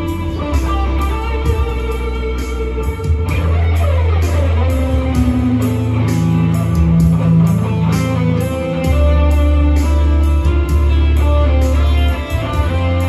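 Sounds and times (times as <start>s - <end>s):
backing track with steady beat: 0.0s - 13.0s
electric guitar lead: 0.0s - 13.0s.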